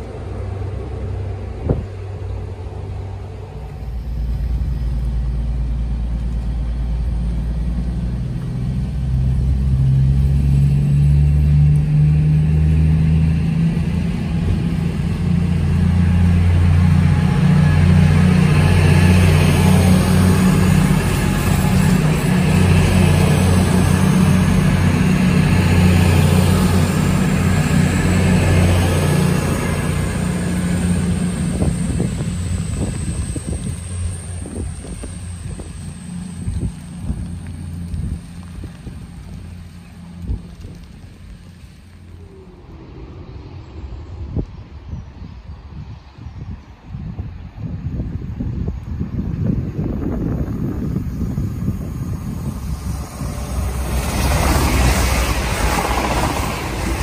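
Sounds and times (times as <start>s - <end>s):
train diesel engines revving: 0.0s - 45.9s, 47.9s - 57.0s.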